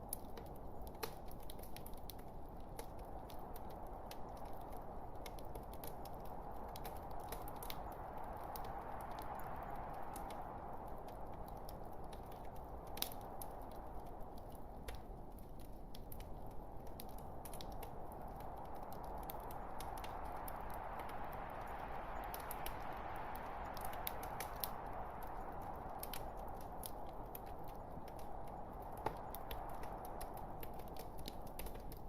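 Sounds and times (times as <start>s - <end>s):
logs crackling and popping: 0.0s - 32.0s
wood fire hissing: 0.0s - 32.0s.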